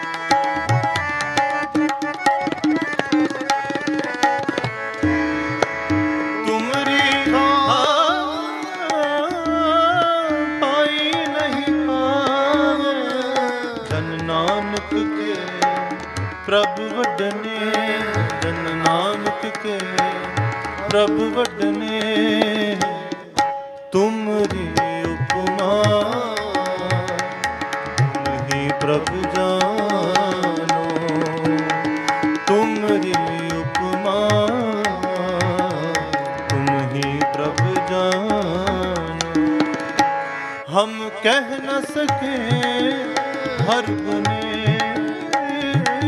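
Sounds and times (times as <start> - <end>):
harmonium: 0.0 - 46.0
tabla playing: 0.0 - 46.0.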